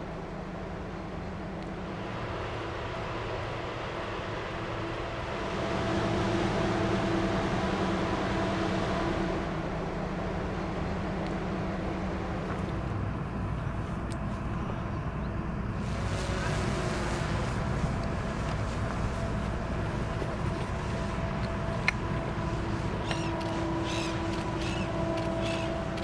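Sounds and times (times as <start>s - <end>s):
ship engines droning: 0.0s - 26.0s.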